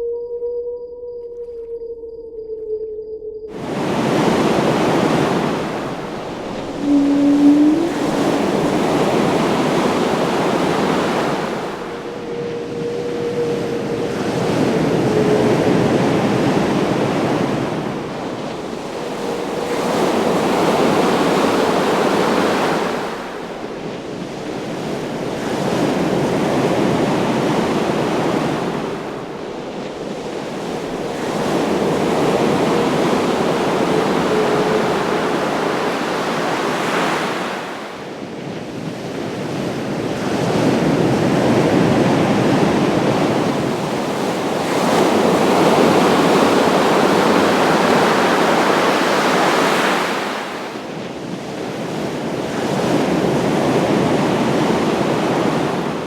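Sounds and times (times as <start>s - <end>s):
wind howling: 0.0s - 56.0s
ocean waves rolling in: 3.5s - 56.0s.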